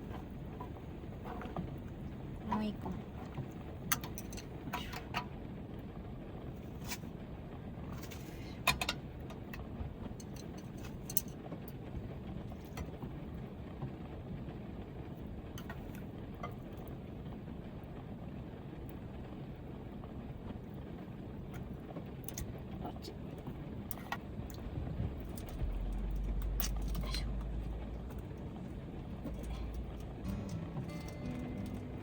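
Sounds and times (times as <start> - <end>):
heavy rain drumming on van roof: 0.0 - 32.0.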